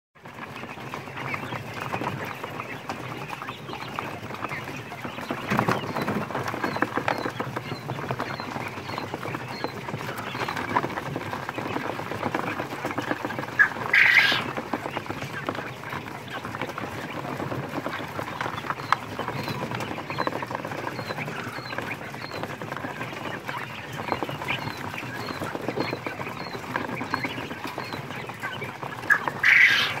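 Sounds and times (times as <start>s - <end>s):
quails chirping: 0.2s - 30.0s
quails scratching in ash: 0.2s - 30.0s
loud quail calls: 0.4s - 30.0s.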